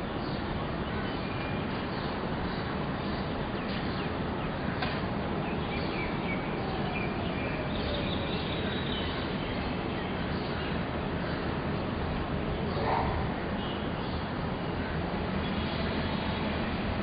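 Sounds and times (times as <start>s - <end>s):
birds chirping: 0.0s - 15.9s
open-air background rush: 0.0s - 17.0s.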